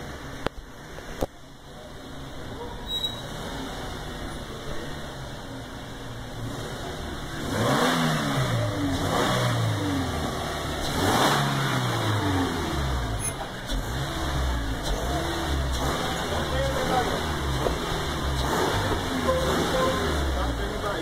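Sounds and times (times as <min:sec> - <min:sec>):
car engines revving: 0:00.0 - 0:21.0
vehicles passing by: 0:00.0 - 0:21.0.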